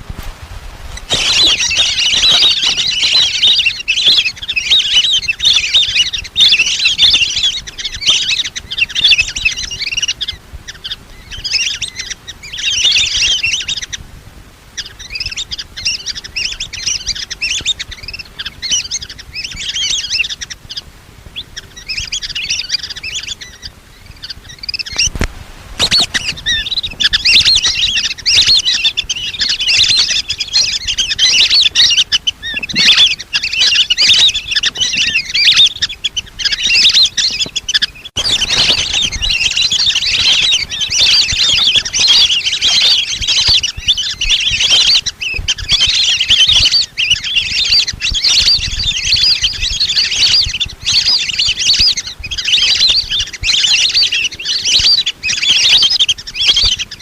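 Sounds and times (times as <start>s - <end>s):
ducks whistling calls: 0.9s - 14.0s, 14.7s - 57.0s.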